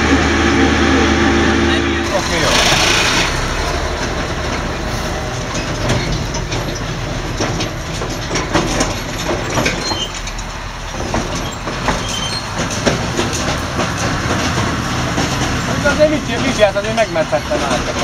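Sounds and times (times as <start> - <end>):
truck engine running: 0.0 - 18.0
steady rattle: 2.1 - 18.0
truck bodies knocking and clattering: 2.1 - 18.0.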